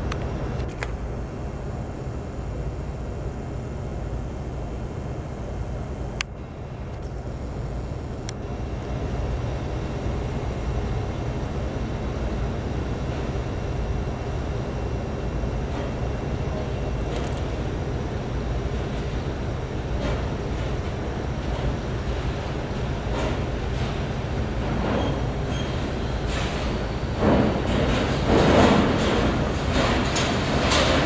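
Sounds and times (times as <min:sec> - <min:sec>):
low machinery rumble: 0:00.0 - 0:31.0.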